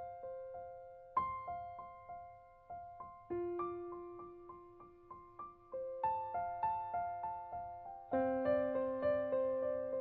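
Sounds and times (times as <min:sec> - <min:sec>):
gentle piano notes: 0:00.0 - 0:10.0.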